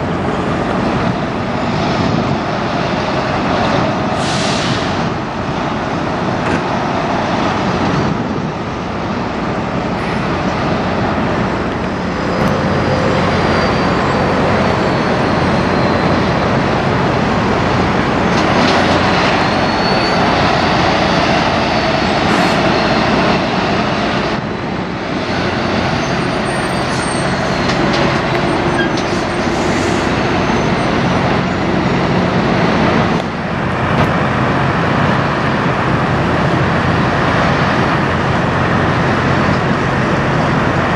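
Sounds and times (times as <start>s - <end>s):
trucks driving by: 0.0s - 40.9s.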